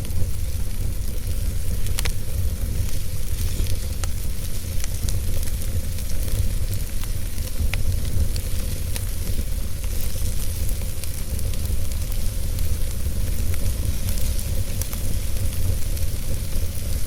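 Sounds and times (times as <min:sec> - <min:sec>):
loud fire snap: 0:00.0 - 0:17.0
wood fire crackling: 0:00.0 - 0:17.0.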